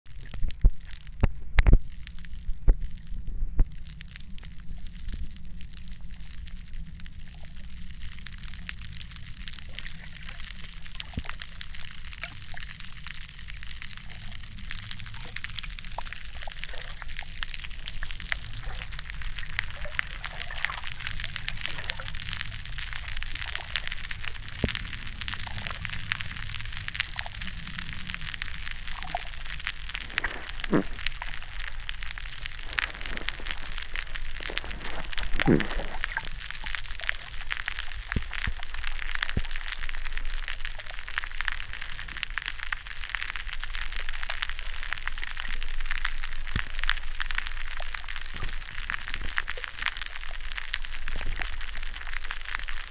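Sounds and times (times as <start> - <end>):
low underwater rumble: 0.1 - 52.9
underwater crackle of clicks: 0.1 - 52.9.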